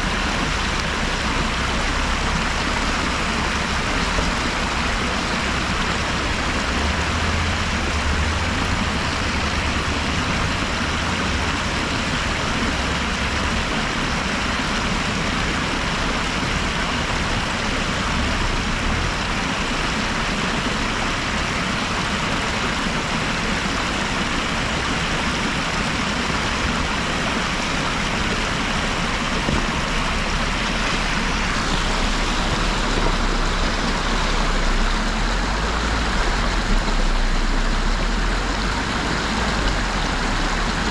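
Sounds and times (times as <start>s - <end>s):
low engine drone: 0.0s - 40.9s
steady rushing noise: 0.0s - 40.9s.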